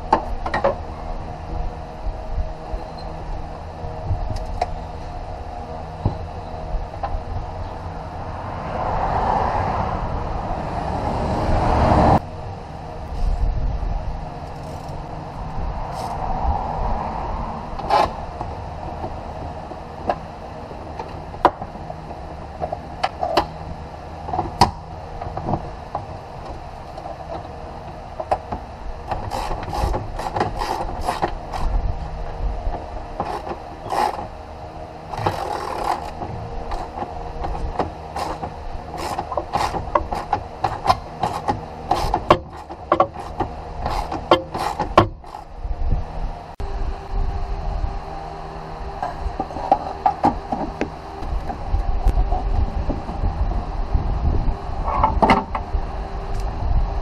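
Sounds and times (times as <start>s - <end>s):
low hum: 0.0s - 57.0s.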